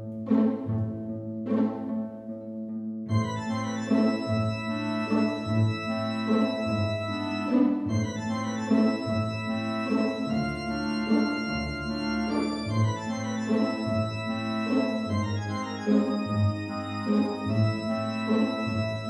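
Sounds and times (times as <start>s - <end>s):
background music with chords: 3.1s - 19.0s.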